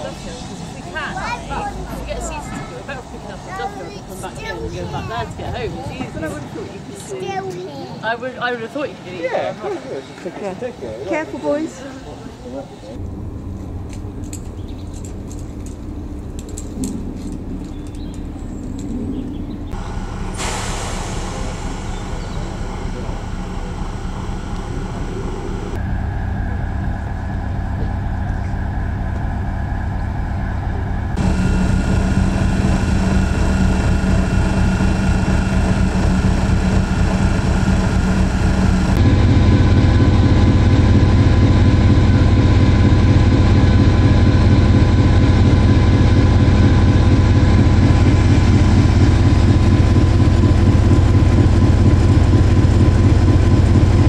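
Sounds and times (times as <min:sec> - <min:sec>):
diesel engine idling: 0:00.0 - 0:07.4, 0:11.1 - 0:54.0.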